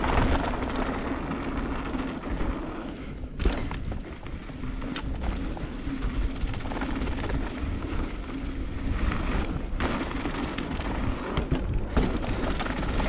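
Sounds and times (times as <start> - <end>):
bike knocking and rattling: 0.0 - 13.0
bike tyres rolling on dirt: 0.0 - 13.0
wind rumbling on microphone: 0.0 - 13.0.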